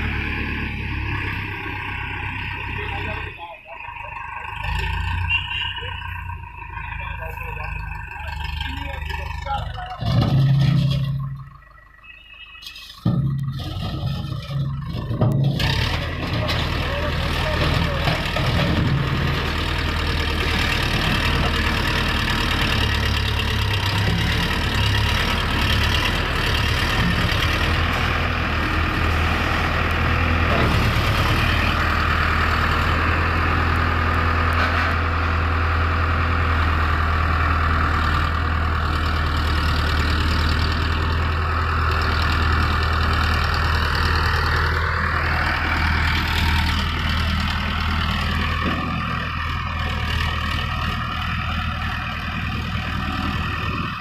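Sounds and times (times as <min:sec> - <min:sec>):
diesel engine deep hum: 0:00.0 - 0:54.0.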